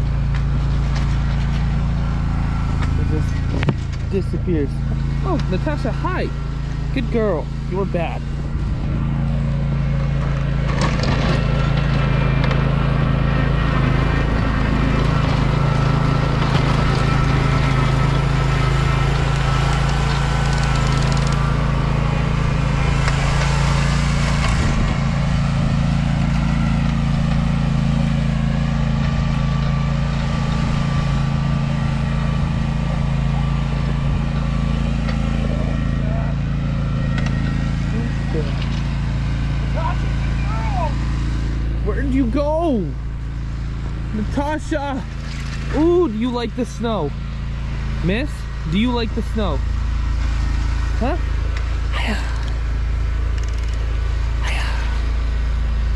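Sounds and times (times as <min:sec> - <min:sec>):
mower engine running: 0:00.0 - 0:55.9.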